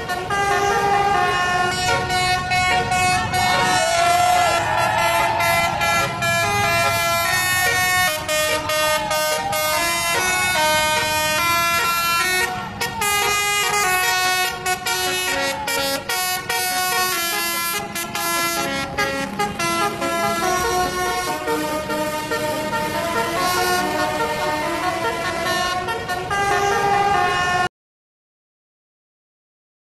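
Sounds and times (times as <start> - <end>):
air horns playing a tune: 0.0 - 27.7
bus engine running: 0.0 - 27.7.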